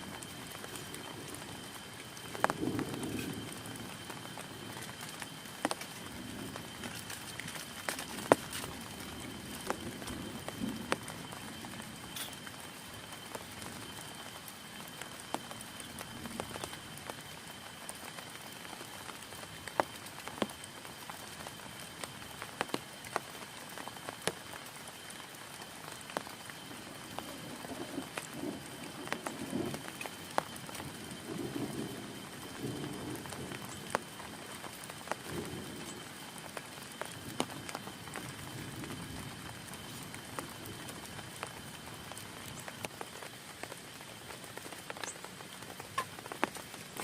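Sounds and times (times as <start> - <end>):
heavy rain hissing: 0.0 - 47.0
raindrops striking tent fabric: 0.0 - 47.0.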